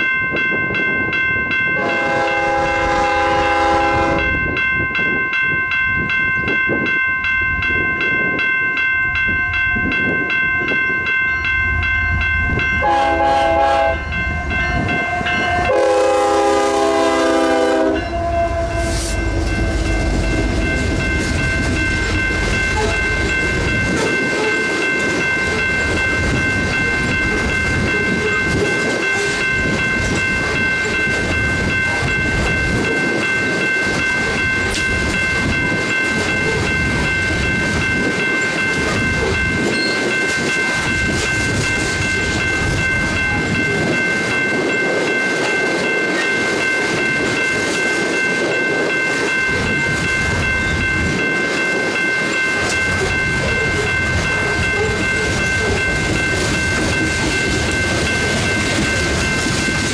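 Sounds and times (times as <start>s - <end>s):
train cars rumbling and clattering: 0.0s - 59.9s.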